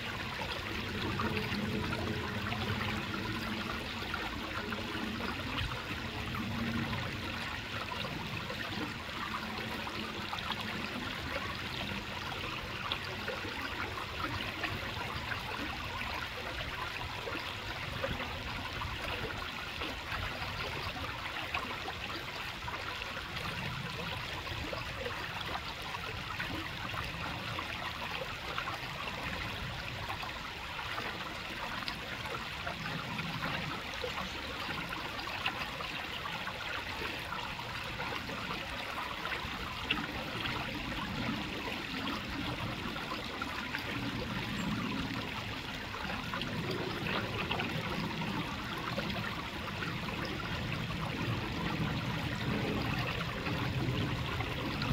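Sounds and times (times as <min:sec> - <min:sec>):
creek water trickling over rocks: 0:00.0 - 0:54.9.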